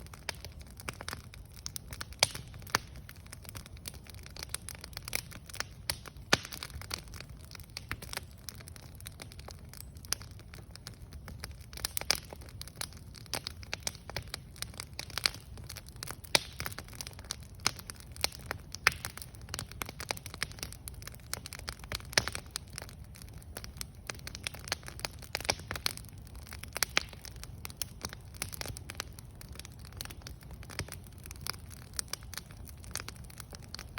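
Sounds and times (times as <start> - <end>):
campfire crackling and popping: 0.0 - 33.9.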